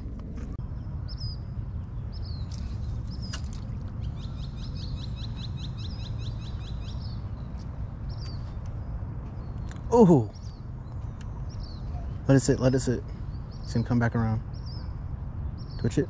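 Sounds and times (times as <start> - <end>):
small birds chirping: 0.5 - 16.0.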